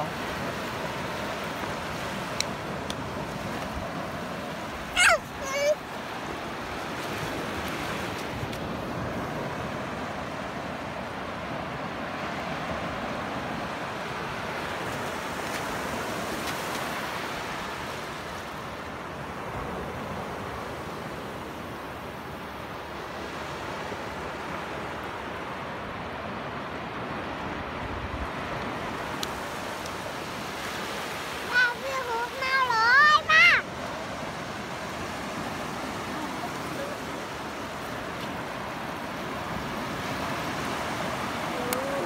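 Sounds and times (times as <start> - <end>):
surf washing onto beach: 0.0 - 42.0.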